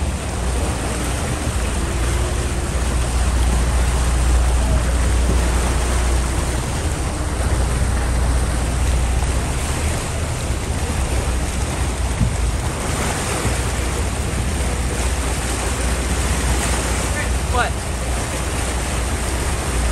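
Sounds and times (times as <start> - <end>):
steady low rumble: 0.0 - 19.9
water rushing and splashing: 0.0 - 19.9
wind buffeting microphone: 0.0 - 19.9.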